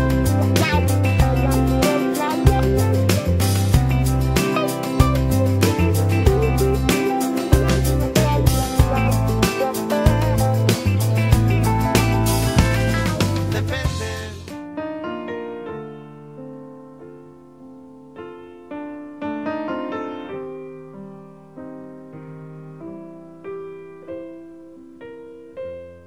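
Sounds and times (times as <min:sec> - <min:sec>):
slow gentle piano melody: 0:00.0 - 0:26.0.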